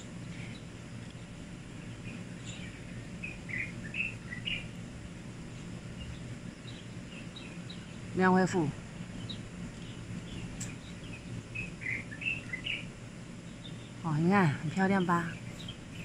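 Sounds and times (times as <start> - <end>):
small birds chirping: 0.0 - 16.0
steady low background hum: 0.0 - 16.0.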